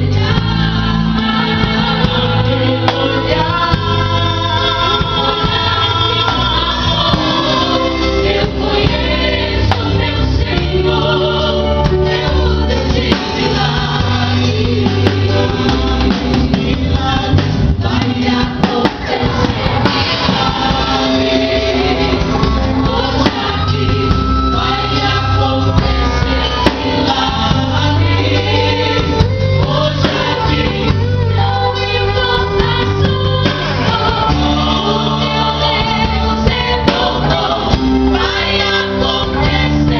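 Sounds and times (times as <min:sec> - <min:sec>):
band with bass line: 0:00.0 - 0:39.9
voices singing together: 0:00.0 - 0:39.9.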